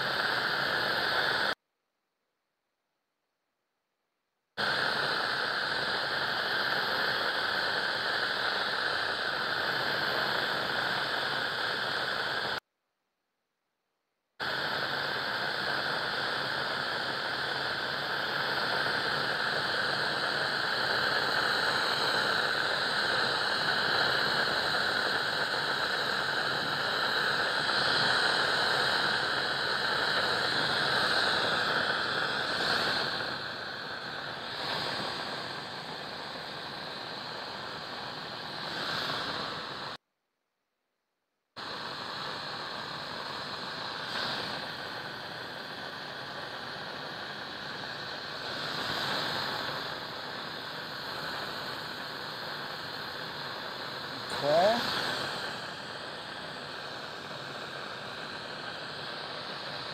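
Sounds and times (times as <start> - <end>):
torch flame hissing: 0.0 - 1.6, 4.6 - 12.6, 14.4 - 40.0, 41.6 - 59.9.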